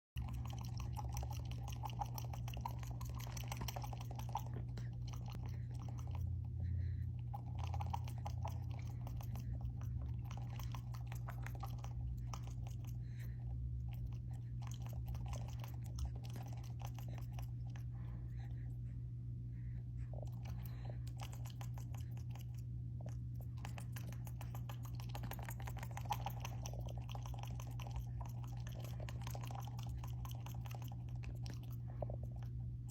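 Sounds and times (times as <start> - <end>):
steady low hum: 0.1 - 32.9
pet chewing fingernails: 0.2 - 19.1, 19.9 - 32.9.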